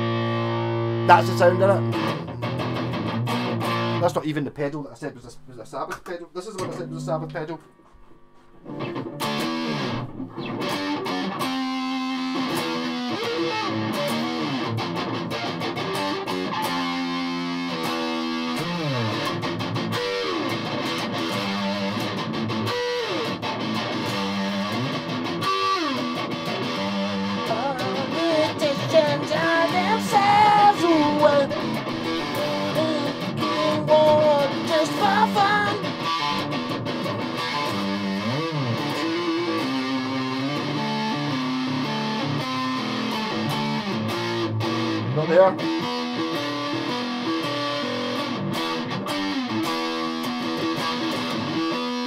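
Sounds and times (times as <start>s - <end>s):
distorted electric guitar: 0.0s - 4.3s, 5.2s - 52.0s.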